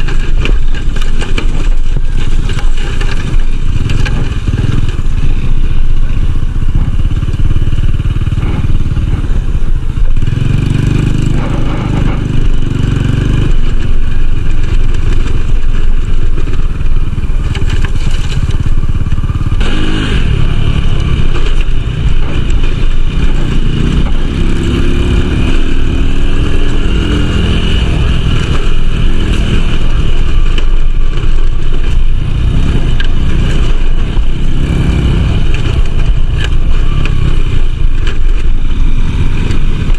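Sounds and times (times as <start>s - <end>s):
small motorcycle engine revving: 0.0s - 39.9s.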